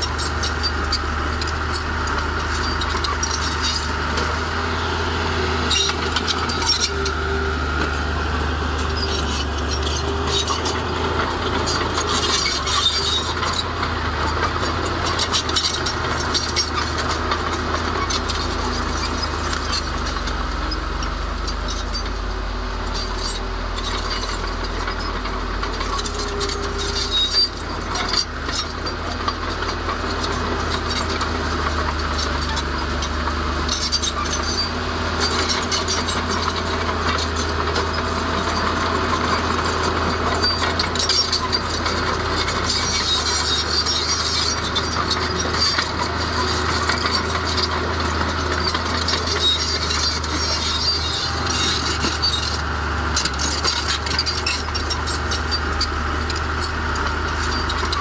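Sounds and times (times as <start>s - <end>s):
diesel machinery running: 0.0s - 58.0s.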